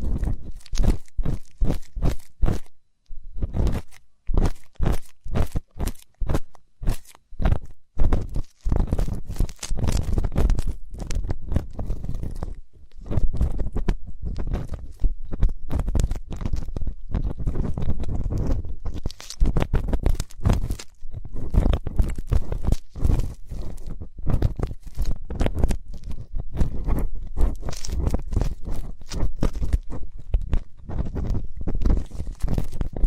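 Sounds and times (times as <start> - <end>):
ear-cleaning tool scraping: 0.0 - 2.7, 3.4 - 33.0.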